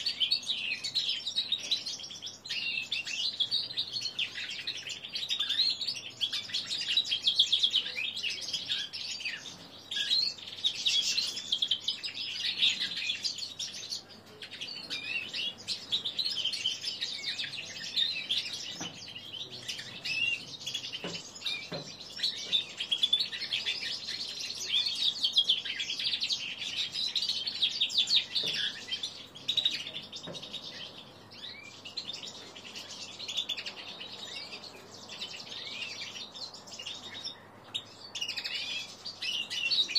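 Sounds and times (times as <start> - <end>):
young bird twittering song: 0.0 - 39.9.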